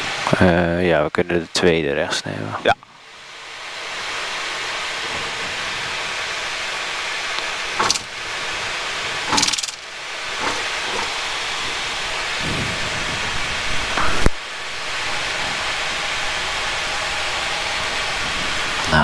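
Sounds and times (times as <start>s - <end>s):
cockpit hiss of idling jet engines: 0.0s - 19.0s.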